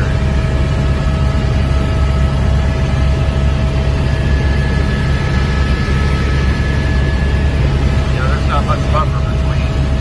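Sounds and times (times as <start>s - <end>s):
helicopter cabin drone: 0.0s - 10.0s.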